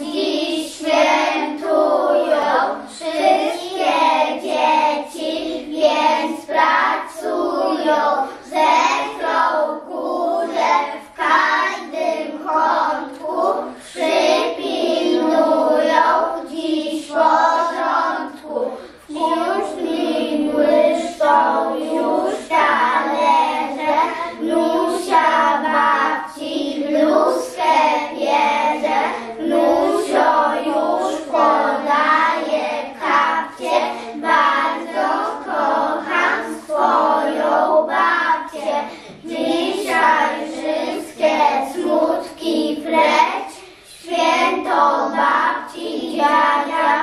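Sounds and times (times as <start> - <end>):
children singing together: 0.0 - 47.0.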